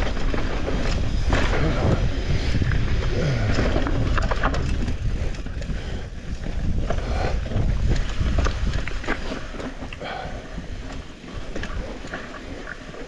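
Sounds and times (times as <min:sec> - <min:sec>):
bike rattling: 0:00.0 - 0:13.0
tyres rumbling over dirt: 0:00.0 - 0:13.0.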